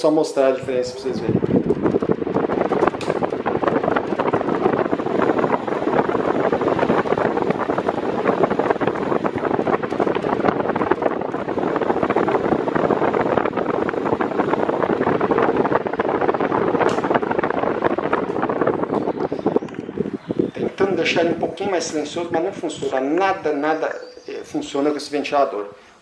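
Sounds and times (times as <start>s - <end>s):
electric fan blowing air: 0.0s - 26.0s.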